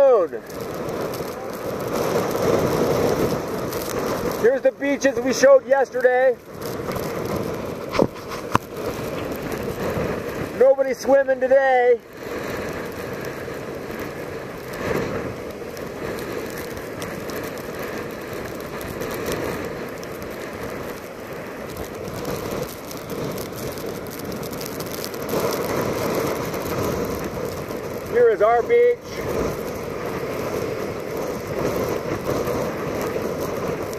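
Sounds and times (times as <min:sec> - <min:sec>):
hurricane wind: 0:00.0 - 0:33.9
rain: 0:00.0 - 0:33.9.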